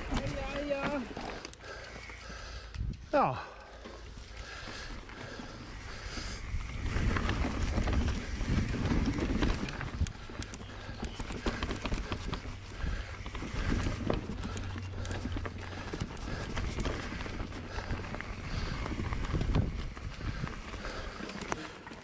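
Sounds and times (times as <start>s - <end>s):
bike frame and chain rattling: 0.0s - 22.0s.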